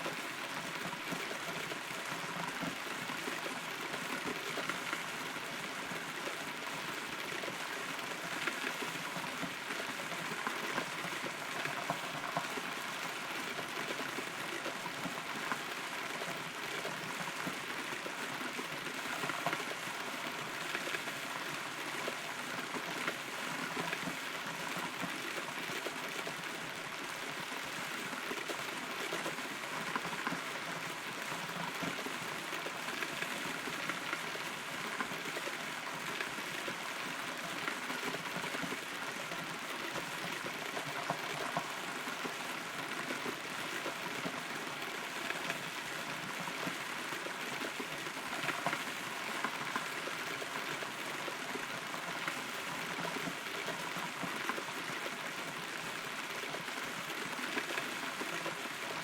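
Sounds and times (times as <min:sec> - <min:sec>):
rain drops pattering on wood: 0:00.1 - 0:59.0.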